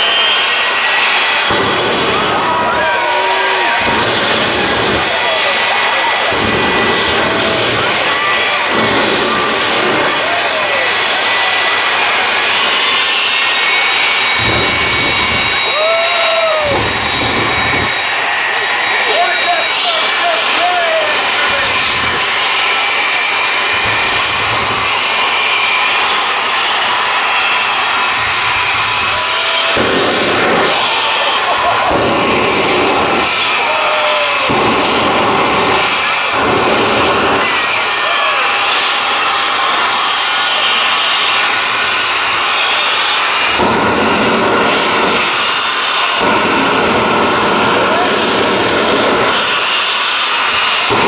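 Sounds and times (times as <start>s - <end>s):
jet engine roaring with whine: 0.0s - 51.0s
deep rumble: 0.2s - 13.0s, 13.6s - 19.0s, 21.1s - 37.8s, 43.2s - 49.5s.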